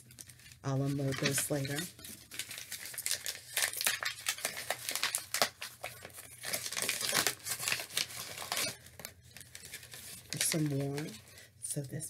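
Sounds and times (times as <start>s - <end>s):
packaging crinkling: 0.0s - 11.5s.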